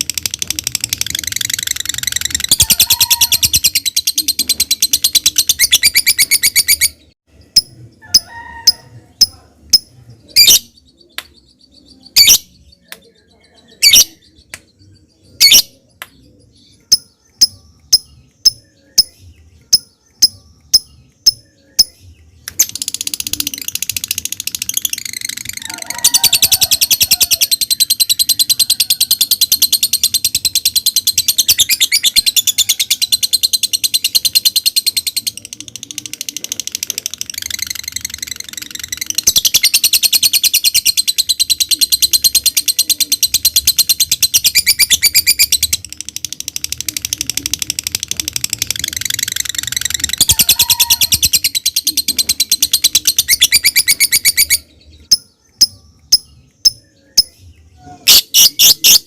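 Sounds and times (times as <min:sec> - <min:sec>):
lovebird chirping and trilling: 0:00.0 - 0:59.0.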